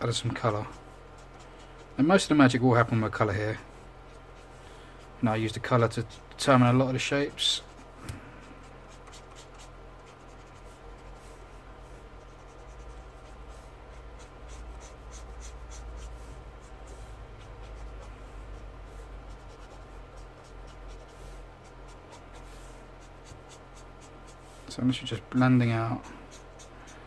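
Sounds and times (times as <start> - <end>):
marker rubbing on paper: 0.1 - 3.0, 4.0 - 27.0.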